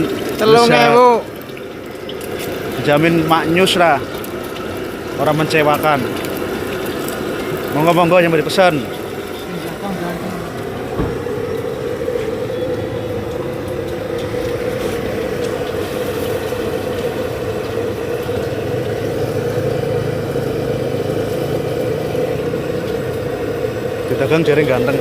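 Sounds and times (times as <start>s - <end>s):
steady mechanical drone: 0.0s - 25.0s.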